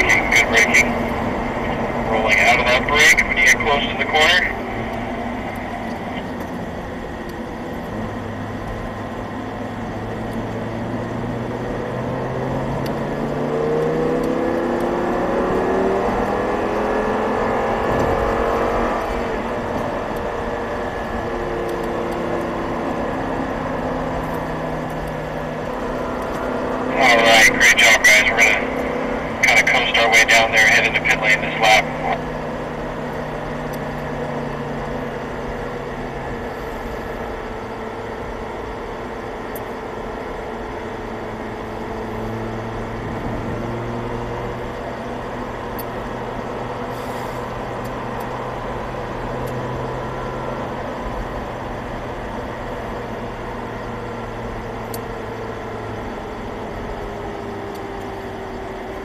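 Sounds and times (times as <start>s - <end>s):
car engine cruising: 0.0s - 59.0s
road and wind noise: 0.0s - 59.0s.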